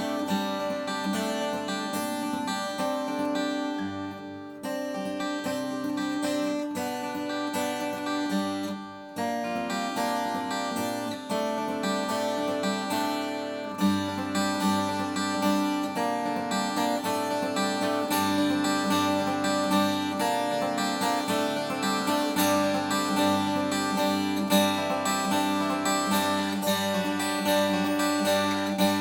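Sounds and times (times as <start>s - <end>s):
acoustic guitar picking and strumming: 0.0s - 29.0s.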